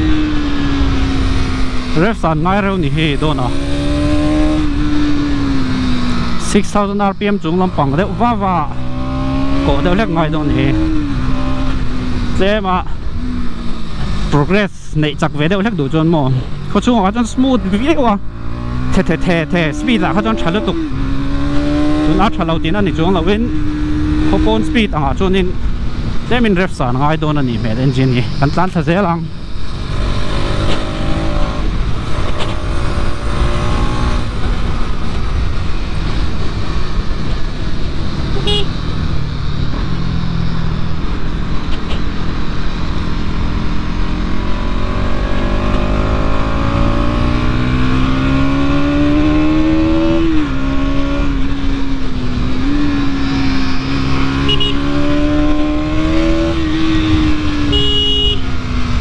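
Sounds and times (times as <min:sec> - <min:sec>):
motorcycle engine revving: 0:00.0 - 0:14.6, 0:15.3 - 0:59.0
wind and road rush: 0:00.0 - 0:59.0.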